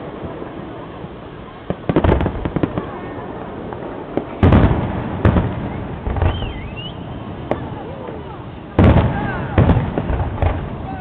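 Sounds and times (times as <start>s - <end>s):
firework crackling: 0.0s - 11.0s
firework shells bursting: 1.6s - 11.0s.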